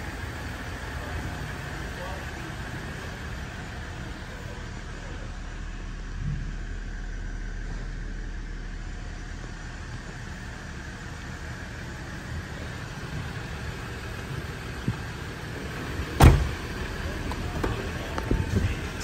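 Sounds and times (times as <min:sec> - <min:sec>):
mechanical hum and rumble: 0:00.0 - 0:19.0.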